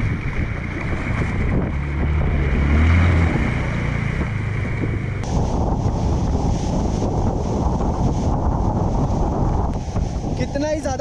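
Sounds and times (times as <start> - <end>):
motorcycle engine drone: 0.0 - 11.0
water splashing from wheels: 0.0 - 11.0
wind buffeting microphone: 0.0 - 11.0.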